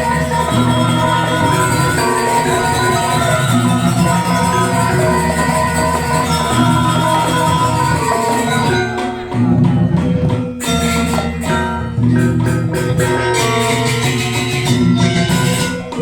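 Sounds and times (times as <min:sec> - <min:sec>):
gamelan ensemble playing: 0:00.0 - 0:16.0.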